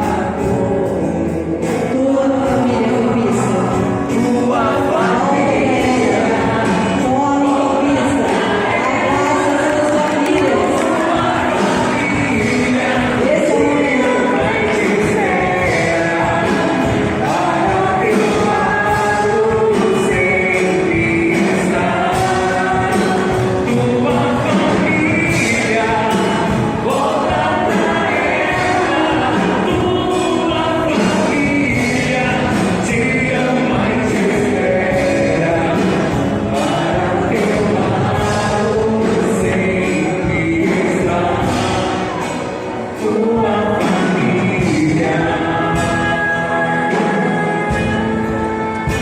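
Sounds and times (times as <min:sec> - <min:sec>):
worship song with band: 0:00.0 - 0:49.0.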